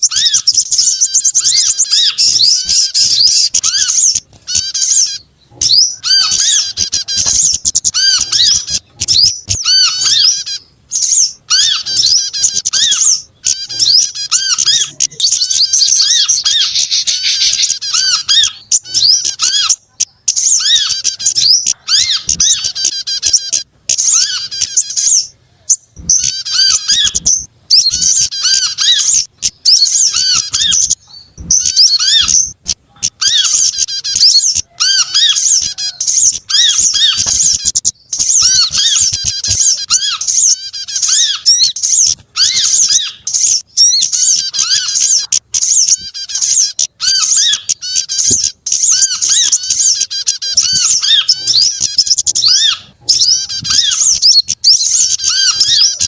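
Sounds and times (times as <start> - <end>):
songbirds twittering and chirping: 0.0 - 56.0.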